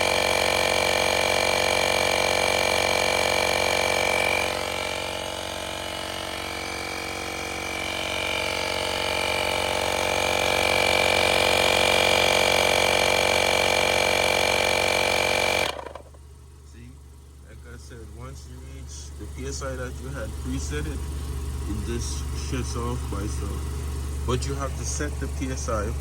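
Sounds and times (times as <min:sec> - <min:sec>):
electric tire inflator running: 0:00.0 - 0:17.4, 0:20.4 - 0:26.0.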